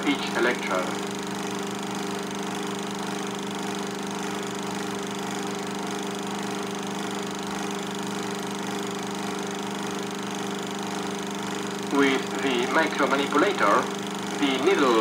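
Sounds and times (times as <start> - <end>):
film projector running: 0.0 - 15.0.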